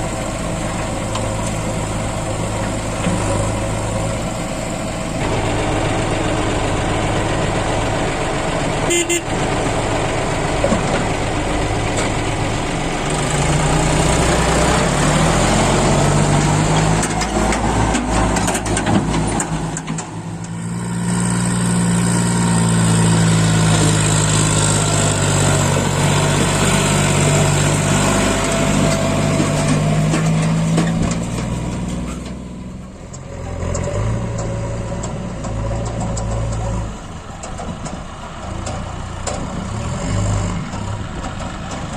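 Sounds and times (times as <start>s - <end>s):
heavy diesel engine revving: 0.0s - 41.9s.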